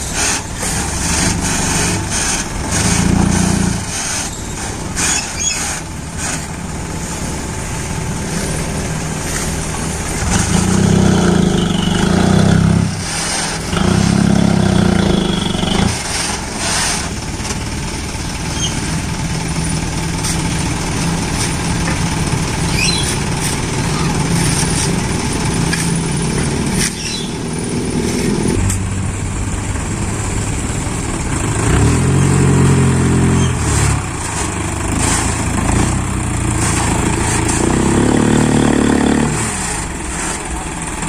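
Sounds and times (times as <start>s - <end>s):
diesel truck engine revving: 0.0s - 41.0s.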